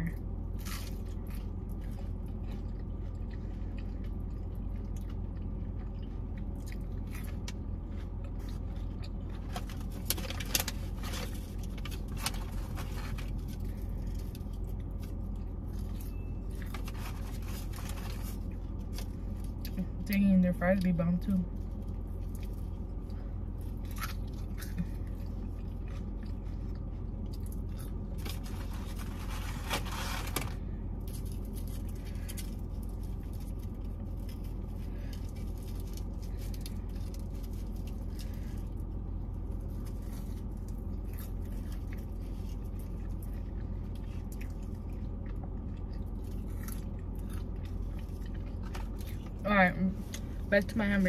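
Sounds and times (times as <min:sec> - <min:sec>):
chewing crunchy fries: 0:00.0 - 0:50.8
steady low hum: 0:00.0 - 0:51.0.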